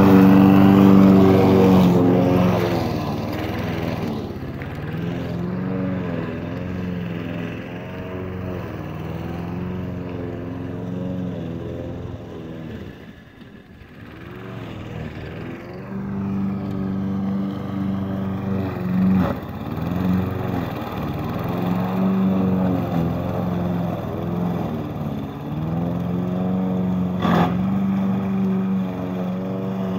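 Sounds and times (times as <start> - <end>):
lawn mower engine running: 0.0 - 29.9.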